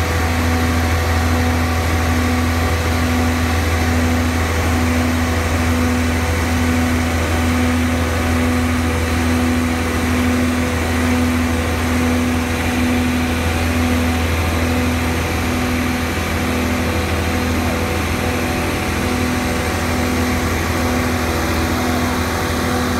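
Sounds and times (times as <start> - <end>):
engine humming: 0.0 - 22.9.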